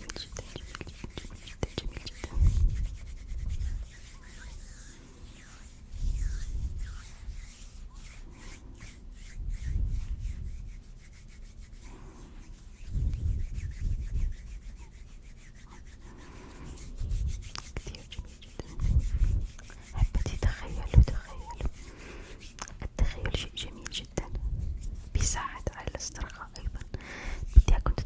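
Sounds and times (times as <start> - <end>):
hands rubbing together: 0.0 - 28.0.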